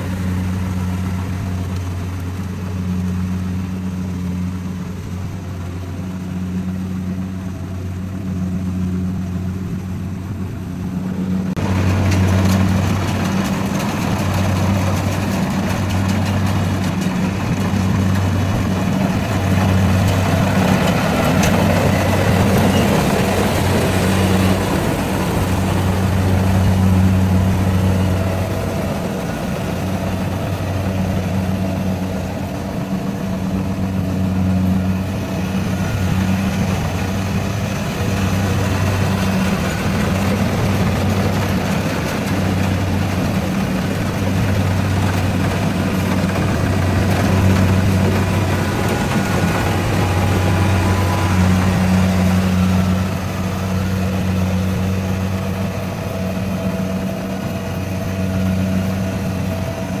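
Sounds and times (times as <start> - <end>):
harvester engine running: 0.0 - 60.0.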